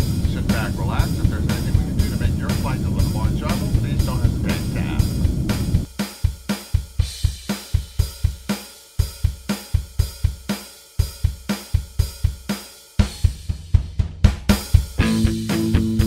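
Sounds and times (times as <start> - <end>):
drum kit playing steady beat: 0.0 - 16.0.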